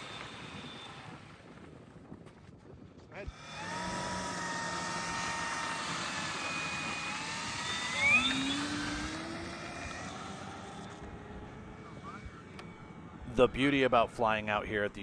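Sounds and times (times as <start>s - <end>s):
model plane motor whining: 0.0s - 1.7s, 3.2s - 13.9s.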